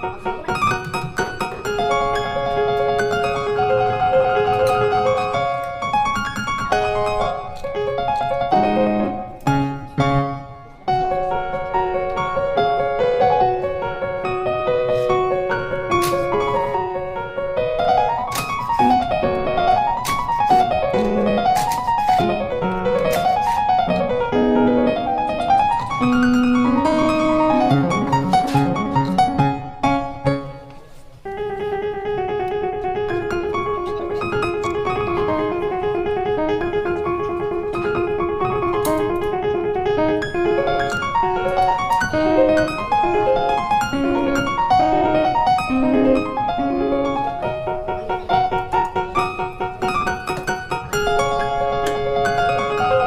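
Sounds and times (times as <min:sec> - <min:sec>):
piano melody: 0:00.0 - 0:53.0.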